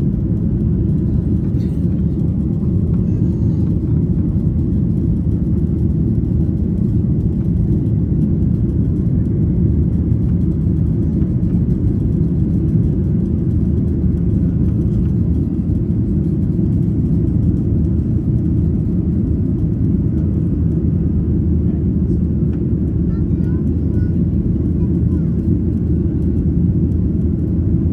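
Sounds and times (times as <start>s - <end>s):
jet engine cabin rumble: 0.0s - 27.9s.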